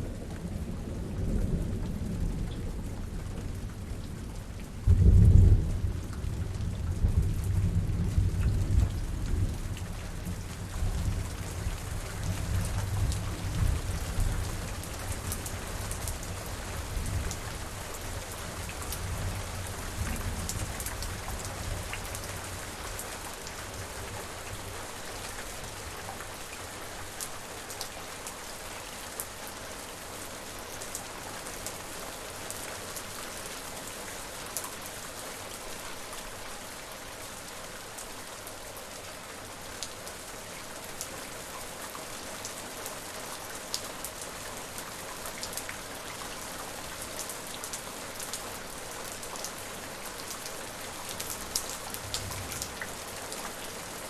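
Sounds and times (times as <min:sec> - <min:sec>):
raindrops ticking on a surface: 0:00.0 - 0:54.0
steady rain hiss: 0:00.0 - 0:54.0.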